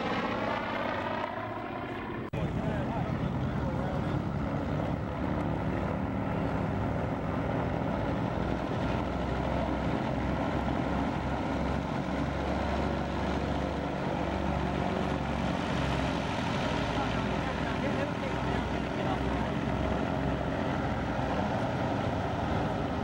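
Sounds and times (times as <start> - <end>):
propeller plane engines running: 0.0 - 23.0.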